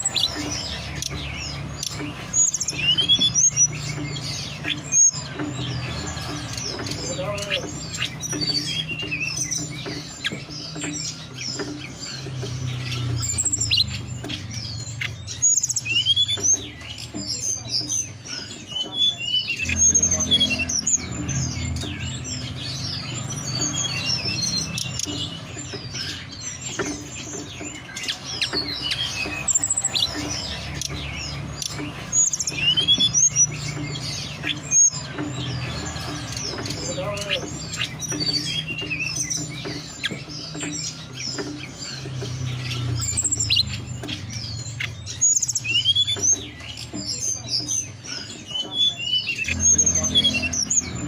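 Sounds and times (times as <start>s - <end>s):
bird chirping and whistling: 0.0s - 51.0s.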